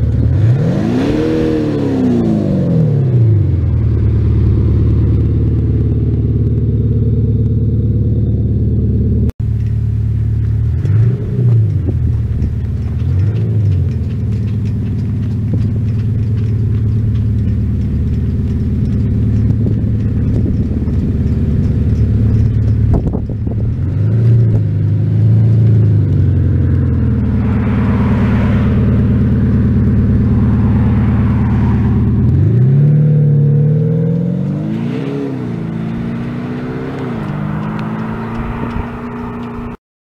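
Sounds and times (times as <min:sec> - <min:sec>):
diesel car engine with exhaust note: 0:00.0 - 0:39.8
engine revving: 0:00.0 - 0:39.8.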